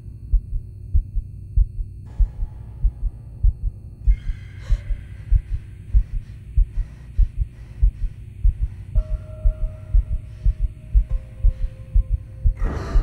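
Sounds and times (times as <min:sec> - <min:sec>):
low hum: 0:00.0 - 0:13.0
heartbeat double thump: 0:00.3 - 0:13.0.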